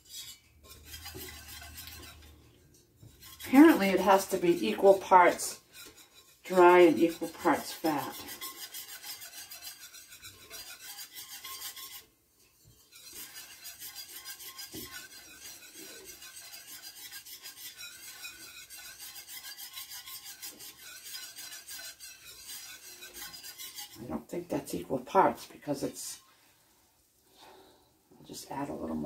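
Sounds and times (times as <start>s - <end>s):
wire whisk scraping a pot: 0.0s - 26.4s.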